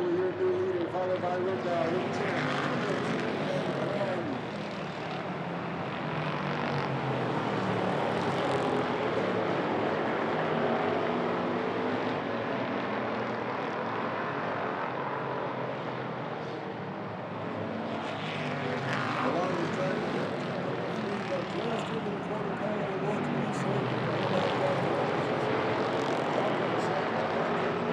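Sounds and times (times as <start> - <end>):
race car engines passing: 0.0 - 27.9.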